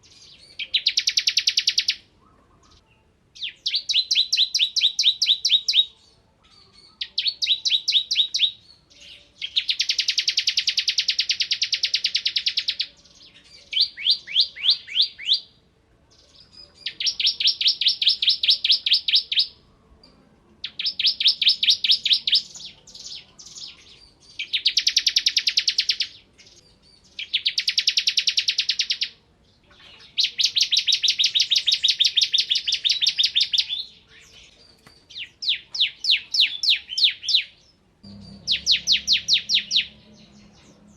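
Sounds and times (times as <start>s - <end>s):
bird singing trilled bursts: 0.0s - 2.8s, 3.4s - 6.0s, 6.8s - 13.0s, 16.8s - 19.6s, 20.6s - 29.2s, 30.0s - 40.9s.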